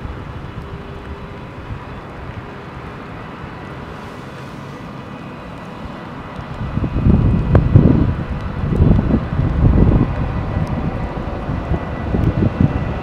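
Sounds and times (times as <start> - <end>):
distant electric locomotive tones: 0.0 - 13.0
wind buffeting microphone: 0.0 - 13.0.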